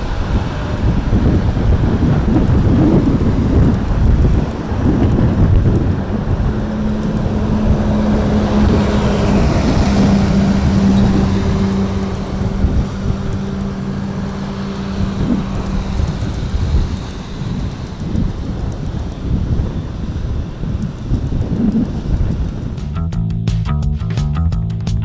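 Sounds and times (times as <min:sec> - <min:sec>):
jet engines on takeoff: 0:00.0 - 0:22.9
wind buffeting microphone: 0:00.0 - 0:23.1.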